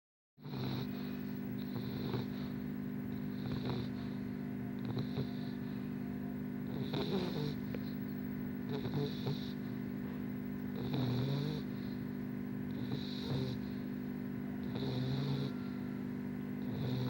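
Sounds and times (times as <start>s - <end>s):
dog snoring: 0.4s - 5.9s, 6.6s - 15.8s, 16.6s - 17.0s
steady low hum: 0.4s - 17.0s.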